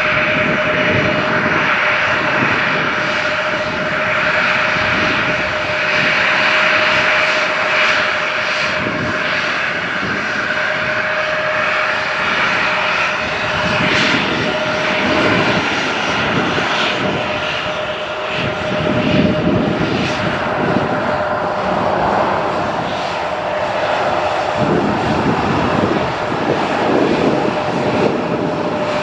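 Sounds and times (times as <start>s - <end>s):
airliner engines running: 0.0s - 29.0s.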